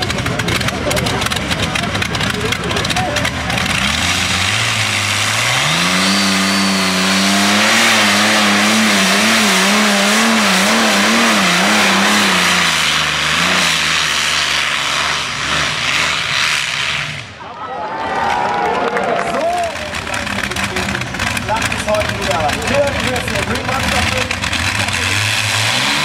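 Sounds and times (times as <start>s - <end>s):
aircraft engines revving: 0.0s - 17.5s, 19.2s - 26.0s.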